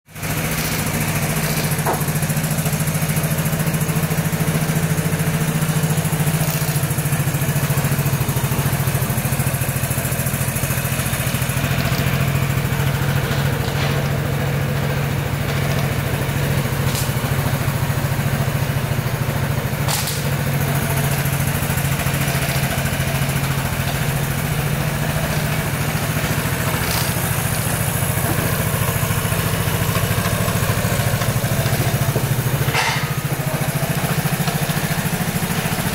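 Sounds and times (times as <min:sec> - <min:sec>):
scooter engine idling: 0:00.1 - 0:35.9.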